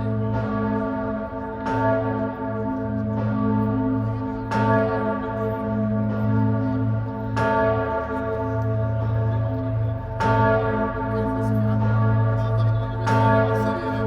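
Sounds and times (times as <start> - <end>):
church bell tolling: 0.0 - 14.0.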